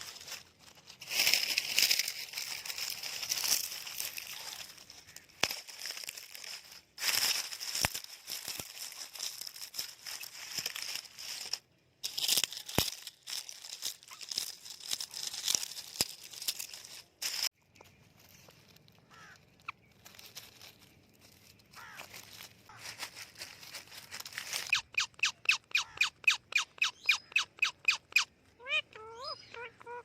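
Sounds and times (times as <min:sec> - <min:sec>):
crinkling rustling: 0:00.0 - 0:24.8.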